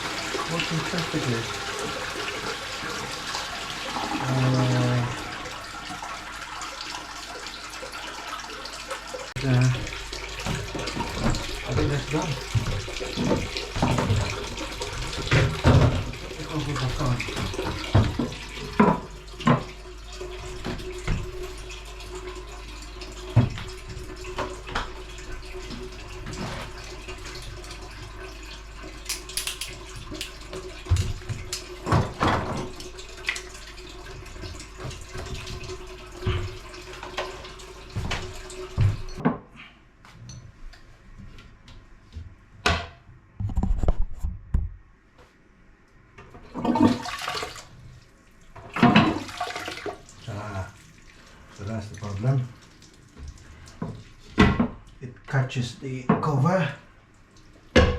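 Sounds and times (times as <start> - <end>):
toilet cistern refilling: 0.0 - 39.2, 46.3 - 57.9.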